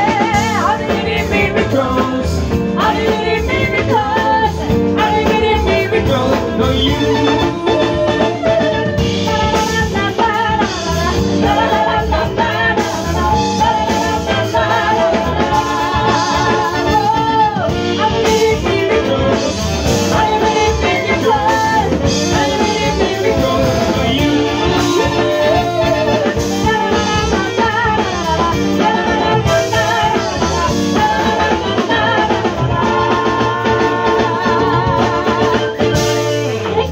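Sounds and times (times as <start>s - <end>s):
male backing vocal: 0.0s - 10.3s, 10.9s - 36.9s
bass guitar: 0.0s - 36.9s
drums: 0.0s - 36.9s
trumpet: 0.0s - 36.9s
woman singing lead: 0.0s - 36.9s.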